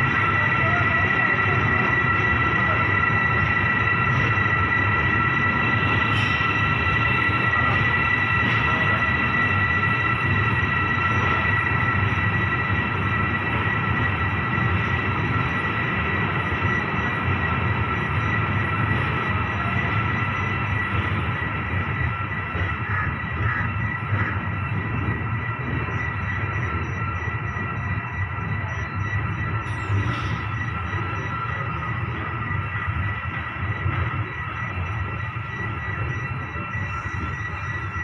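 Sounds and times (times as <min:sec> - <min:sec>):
steel wheels squealing: 0:00.0 - 0:38.0
train wheels rumbling on rail: 0:00.0 - 0:38.0.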